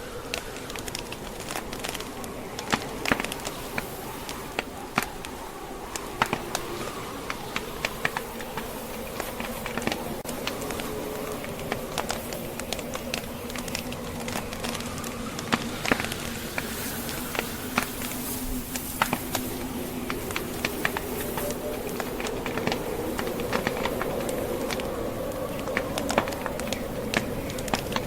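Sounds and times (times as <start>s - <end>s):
howling blizzard wind: 0.0s - 28.0s
wood fire crackling and popping: 0.0s - 28.0s.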